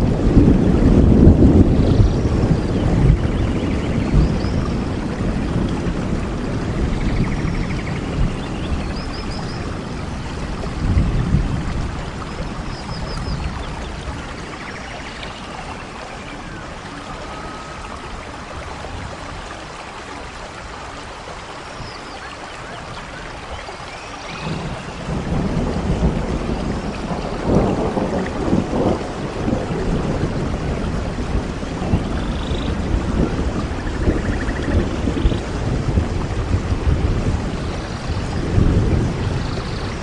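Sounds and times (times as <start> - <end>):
low thunder rumble: 0.0 - 19.8, 22.6 - 40.0
steady rain falling: 0.0 - 40.0.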